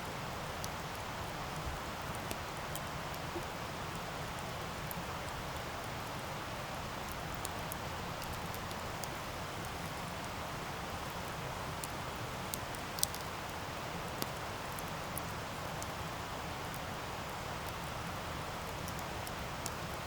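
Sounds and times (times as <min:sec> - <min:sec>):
campfire flames hissing: 0:00.0 - 0:20.0
fire crackles and pops: 0:00.0 - 0:20.0.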